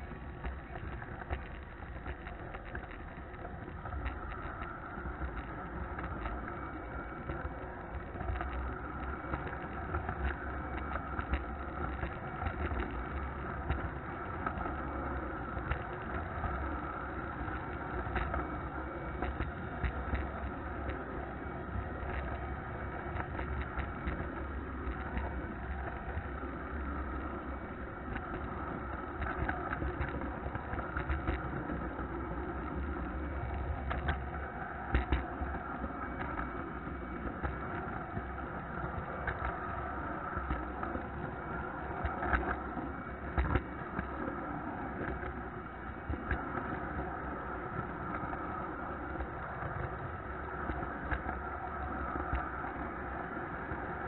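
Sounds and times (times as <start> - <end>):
model train wheels rolling on track: 0.0 - 54.0.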